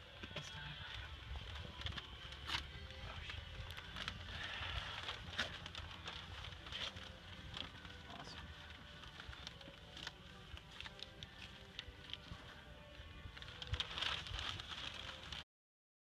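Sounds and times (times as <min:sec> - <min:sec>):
newspaper rustling and crinkling: 0:00.0 - 0:15.4.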